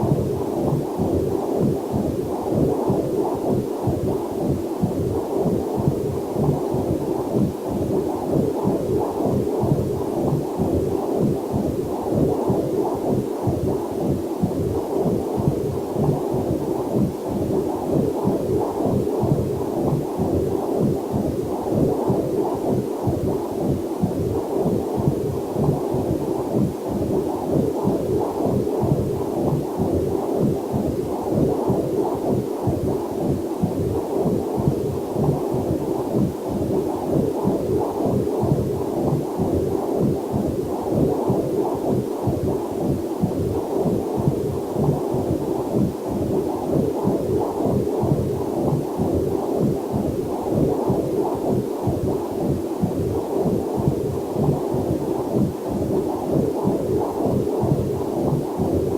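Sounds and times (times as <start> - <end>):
whooshing heartbeat pulses: 0.0 - 58.9.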